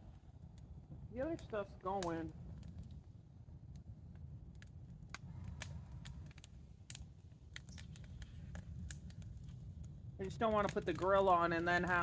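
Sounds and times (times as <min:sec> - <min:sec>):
wood campfire crackling: 0:00.0 - 0:12.0.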